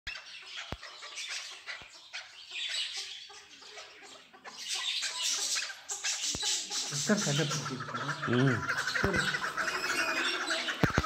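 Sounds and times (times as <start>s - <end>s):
partridges calling: 0.1s - 11.0s.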